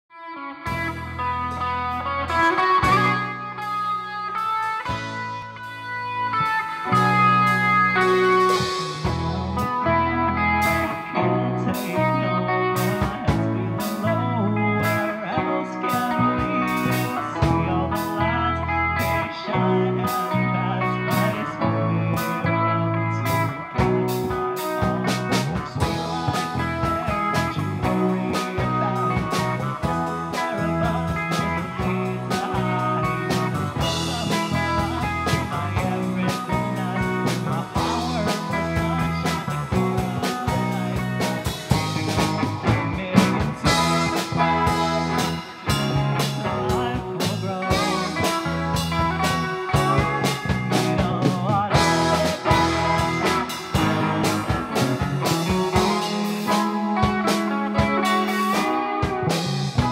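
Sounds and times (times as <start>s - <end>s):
electric guitars: 0.1s - 59.9s
drum kit: 0.7s - 59.9s
man singing into a microphone: 8.1s - 41.9s, 42.6s - 59.9s.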